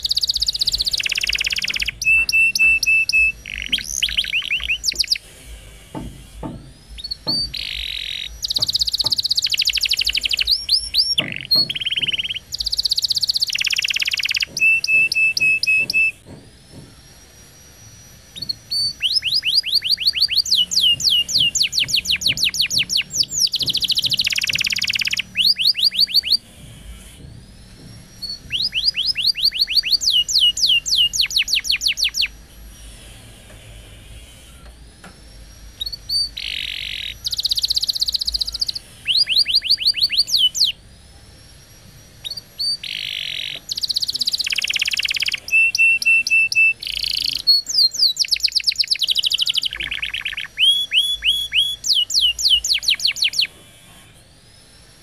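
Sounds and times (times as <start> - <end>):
canary singing trills: 0.0 - 33.2, 35.4 - 55.0.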